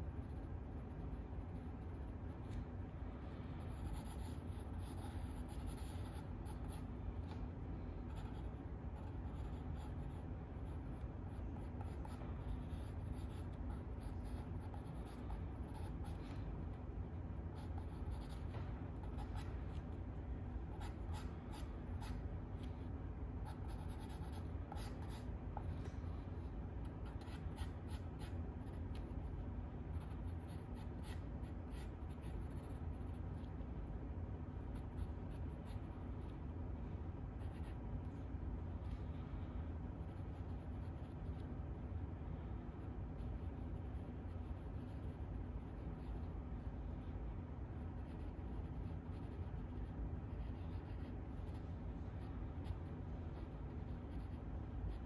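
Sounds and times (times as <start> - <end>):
pencil scratching on paper: 0.0 - 2.7, 3.3 - 33.5, 40.1 - 41.5, 42.8 - 47.2, 47.8 - 55.0
steady low hum: 0.0 - 55.0.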